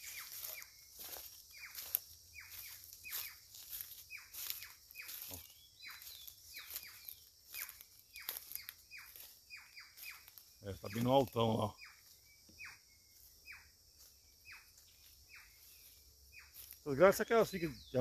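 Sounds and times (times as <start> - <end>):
footsteps on dry leaves: 0.0 - 17.9.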